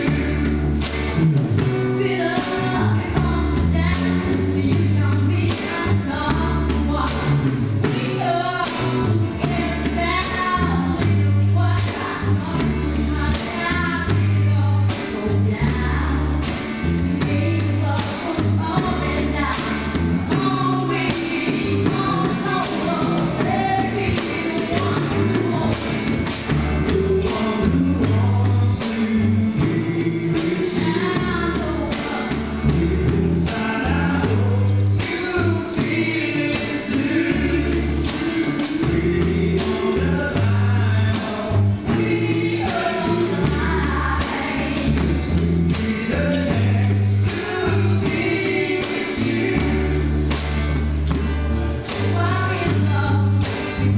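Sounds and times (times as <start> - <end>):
men singing together: 0.0 - 0.8, 2.0 - 51.1
low bass line: 0.0 - 53.9
percussion hits: 0.0 - 53.9
strummed acoustic guitars: 0.0 - 53.9.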